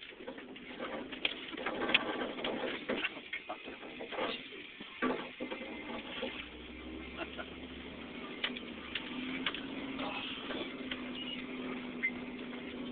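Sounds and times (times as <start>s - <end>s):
truck body knocks and rattles: 0.0s - 12.9s
truck engine hum: 0.0s - 12.9s.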